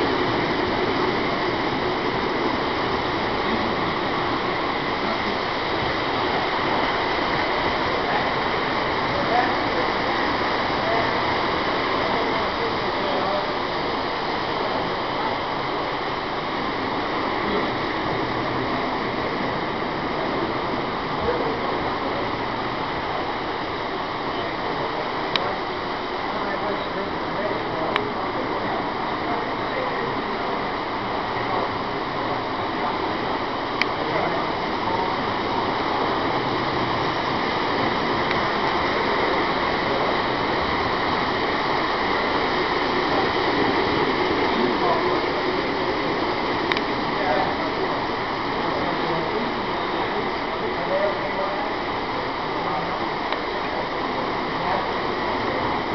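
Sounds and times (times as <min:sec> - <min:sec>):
model trains rolling rumble: 0:00.0 - 0:55.9
room noise hiss: 0:00.0 - 0:55.9.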